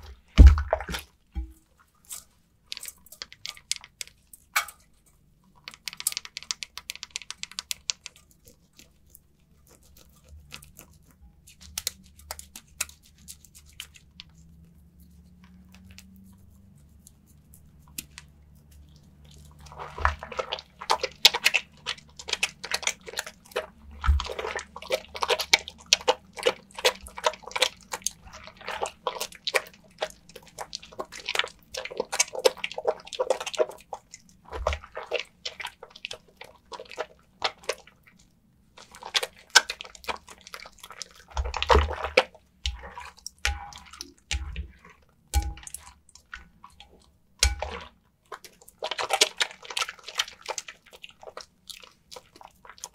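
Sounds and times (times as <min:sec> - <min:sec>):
soap lather squishing and crackling: 0:00.0 - 0:52.9.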